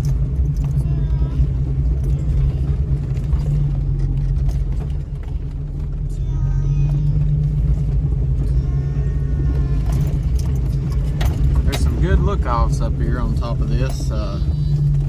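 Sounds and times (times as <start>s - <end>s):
car engine running low speed: 0.0s - 15.0s.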